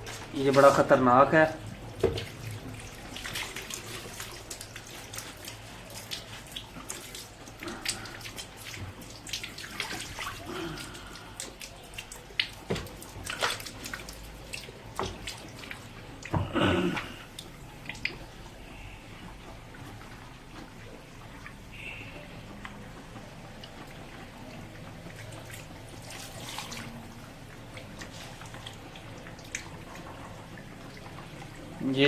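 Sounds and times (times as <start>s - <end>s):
liquid splashing and dripping: 0.0s - 32.0s.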